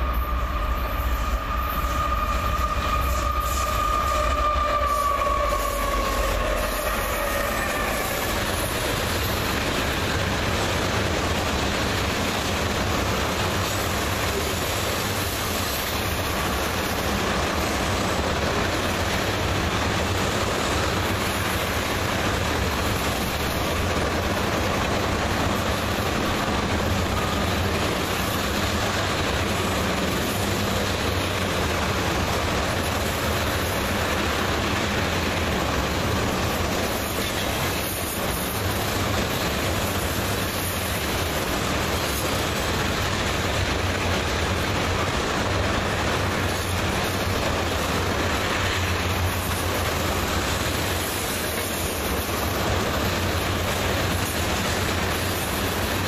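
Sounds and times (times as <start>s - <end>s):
high whine from passing train: 0.0s - 56.0s
train wheels rumbling on rail: 0.0s - 56.0s.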